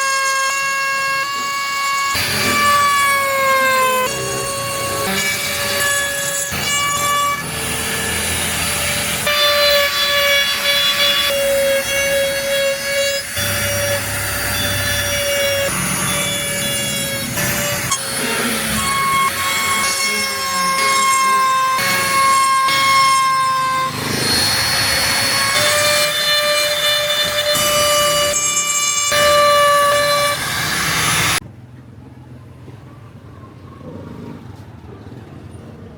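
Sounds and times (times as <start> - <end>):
power carving tool grinding wood: 0.0 - 31.4.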